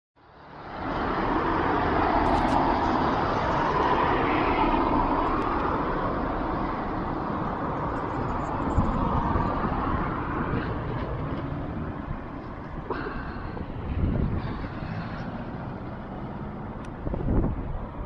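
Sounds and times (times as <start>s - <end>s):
tyres swishing through floodwater: 0.4s - 18.0s.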